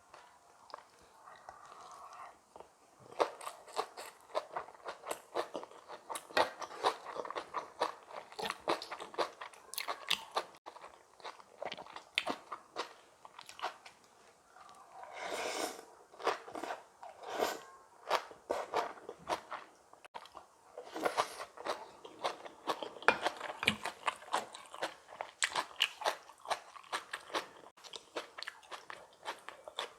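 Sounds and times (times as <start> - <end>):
crunching and chewing food: 0.1 - 15.1, 18.0 - 29.9.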